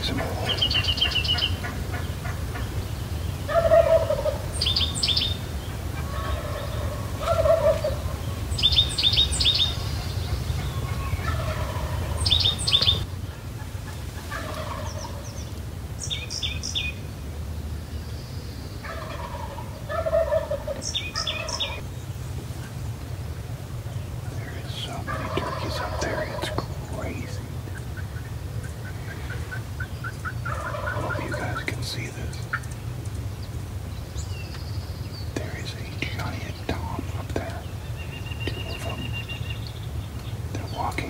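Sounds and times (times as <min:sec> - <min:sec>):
steady low rumble: 0:00.0 - 0:41.0
turkeys calling: 0:00.0 - 0:41.0.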